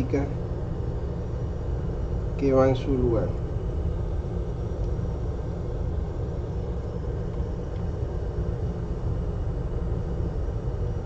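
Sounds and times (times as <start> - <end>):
low machinery rumble: 0.0 - 11.0.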